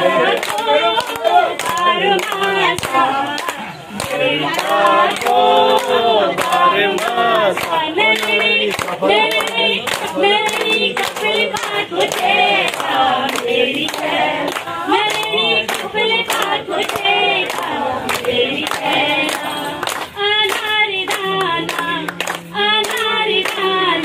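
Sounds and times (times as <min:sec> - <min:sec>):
rhythmic hand claps: 0:00.0 - 0:24.0
women singing folk song: 0:00.0 - 0:24.0.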